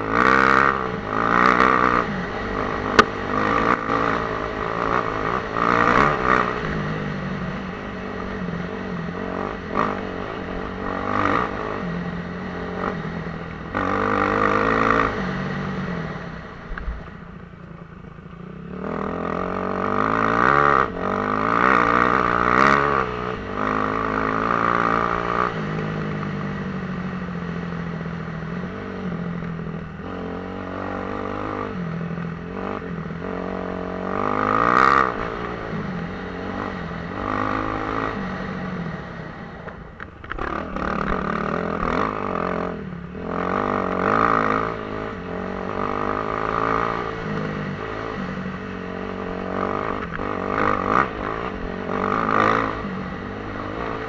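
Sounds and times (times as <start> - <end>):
dirt bike engine revving: 0.0 - 16.5, 18.6 - 54.0.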